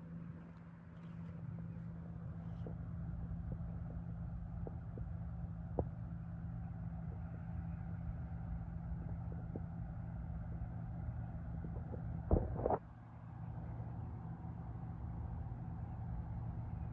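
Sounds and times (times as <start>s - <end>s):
combine harvester engine drone: 0.0s - 16.9s.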